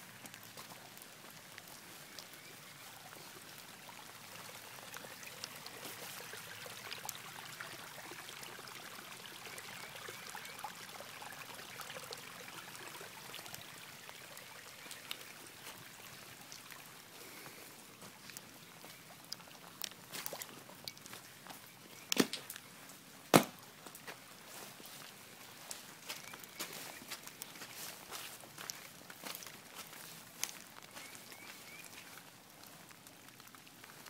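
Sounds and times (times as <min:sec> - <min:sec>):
rain drops ticking: 0:00.0 - 0:34.0
running water: 0:00.0 - 0:34.0.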